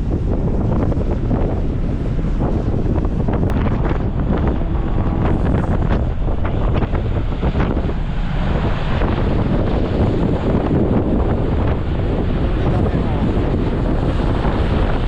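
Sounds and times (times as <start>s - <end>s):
rush of the sea: 0.0s - 15.0s
wind buffeting the microphone: 0.0s - 15.0s.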